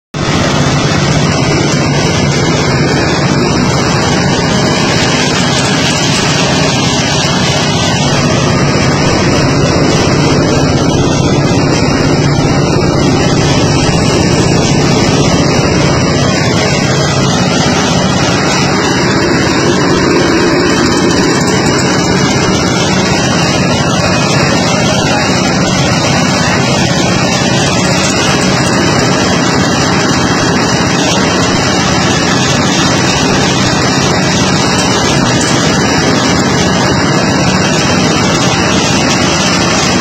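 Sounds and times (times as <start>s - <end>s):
machine motor humming: 0.2s - 40.0s.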